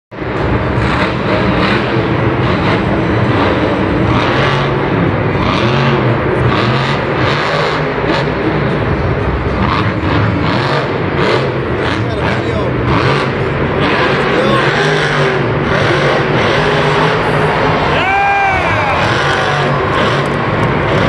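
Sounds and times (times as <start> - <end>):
crowd din: 0.1 - 21.0
truck engine revving: 0.1 - 21.0.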